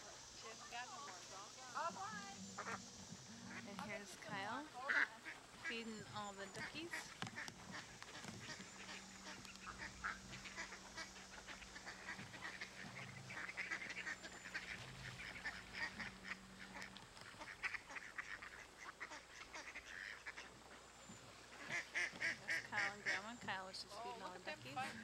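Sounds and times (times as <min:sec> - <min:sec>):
ducks quacking: 0:00.0 - 0:25.0.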